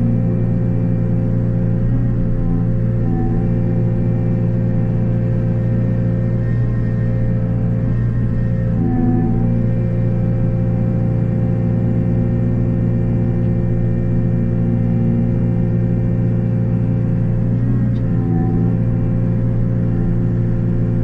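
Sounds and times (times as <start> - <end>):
excavator running brush cutter: 0.0 - 21.0.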